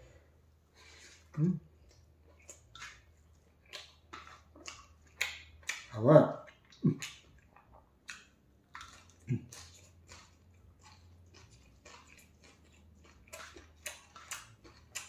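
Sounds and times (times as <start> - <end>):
person chewing food: 0.0 - 15.0
wet mouth clicks and smacks: 1.8 - 15.0.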